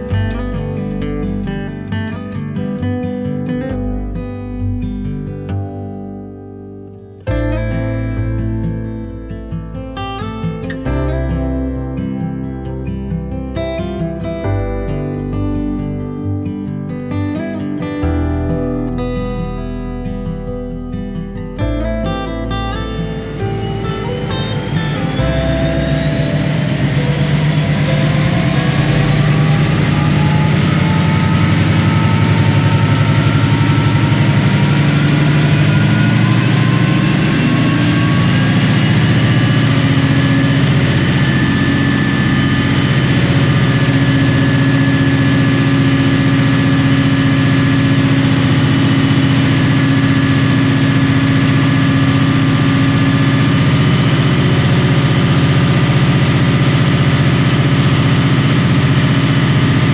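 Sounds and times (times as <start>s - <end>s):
diesel locomotive engine running: 0.0s - 2.6s, 7.3s - 16.4s, 17.2s - 59.9s
high engine whine: 0.0s - 6.3s, 7.2s - 59.9s.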